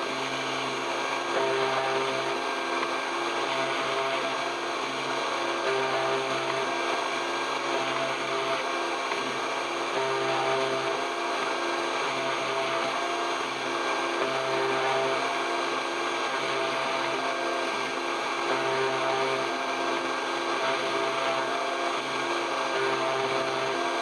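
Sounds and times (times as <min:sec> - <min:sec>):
mill spindle high whine: 0:00.0 - 0:24.0.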